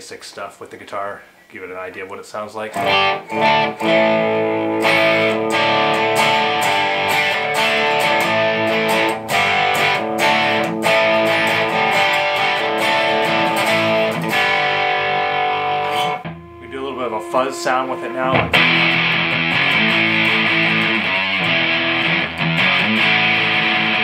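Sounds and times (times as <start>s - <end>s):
overdriven electric guitar chords: 2.7s - 24.0s.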